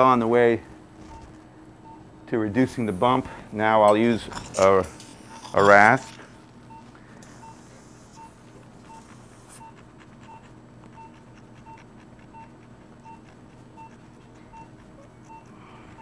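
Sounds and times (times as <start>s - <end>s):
patient monitor beeping: 1.0s - 3.4s, 4.0s - 16.0s.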